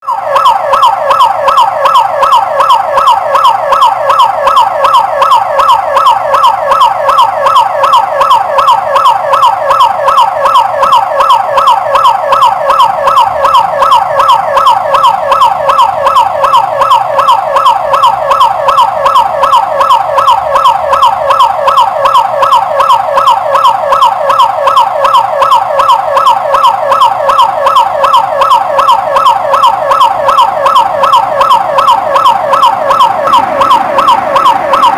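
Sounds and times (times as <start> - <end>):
intruder alarm siren: 0.0 - 34.9.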